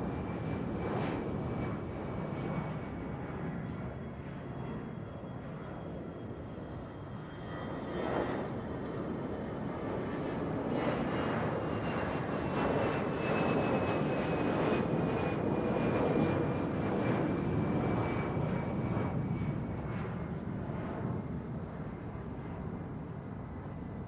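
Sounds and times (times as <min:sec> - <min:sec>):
aircraft engine passing: 0:00.0 - 0:24.0.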